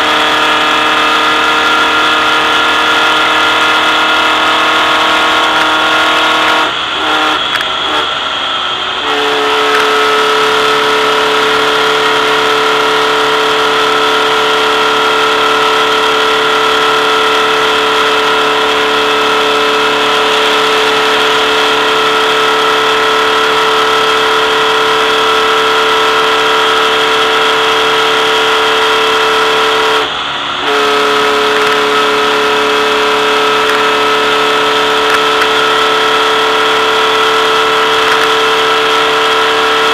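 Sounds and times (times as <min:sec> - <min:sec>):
race car engine at high pitch: 0:00.0 - 0:39.9
wind and road noise: 0:00.0 - 0:39.9.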